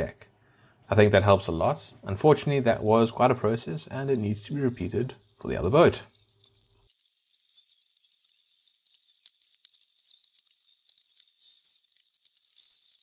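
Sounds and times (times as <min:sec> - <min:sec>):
faint hiss: 0:00.0 - 0:13.0
light ticks and scratches: 0:02.2 - 0:13.0.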